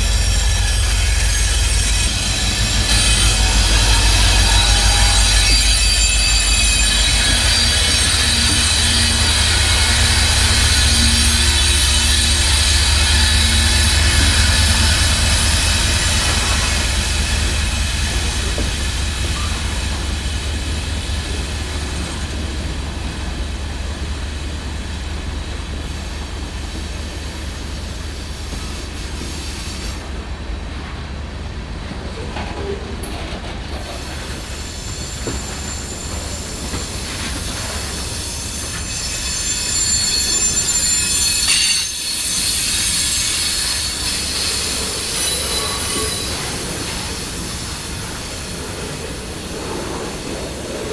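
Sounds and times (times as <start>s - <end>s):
deep train rumble: 0.0s - 50.9s
train wheels squealing on rail: 0.0s - 50.9s.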